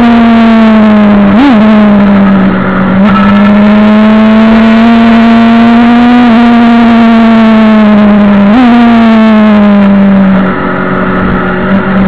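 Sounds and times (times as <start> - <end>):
motorcycle engine high revs: 0.0 - 12.0.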